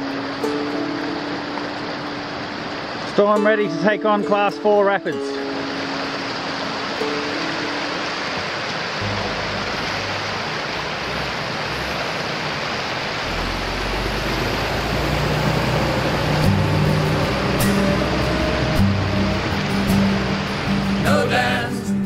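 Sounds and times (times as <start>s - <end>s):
low music notes: 0.0s - 22.0s
rushing river rapid: 0.0s - 22.0s.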